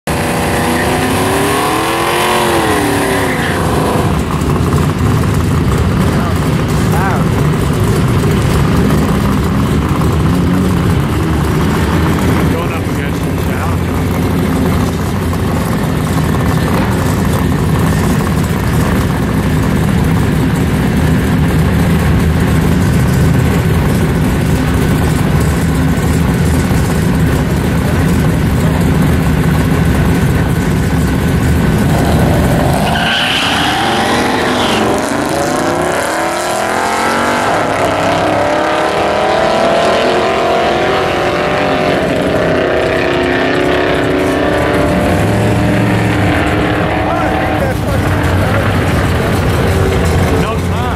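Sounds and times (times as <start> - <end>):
race car engines revving: 0.0 - 50.9
race car engines rumbling: 0.0 - 50.9.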